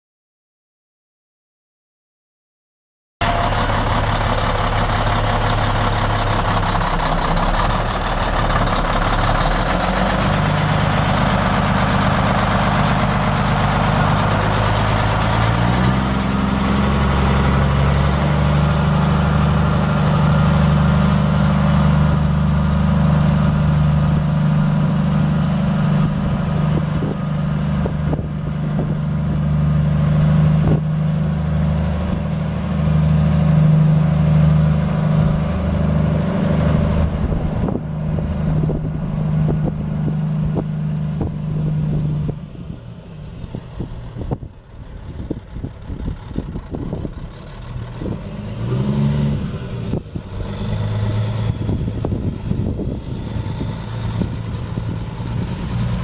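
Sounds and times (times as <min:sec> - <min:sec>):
diesel truck engine running: 0:03.2 - 0:56.0.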